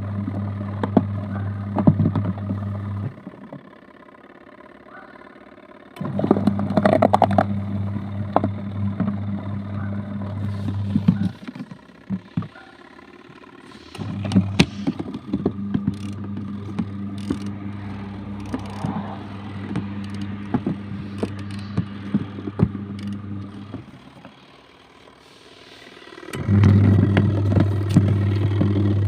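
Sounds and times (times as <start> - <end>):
washing machine motor humming: 0.0 - 29.0.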